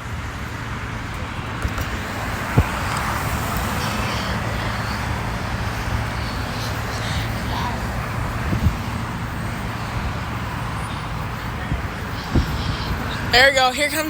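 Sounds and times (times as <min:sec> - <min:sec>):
wind on microphone: 0:00.0 - 0:13.6
road traffic rumble: 0:00.0 - 0:14.0.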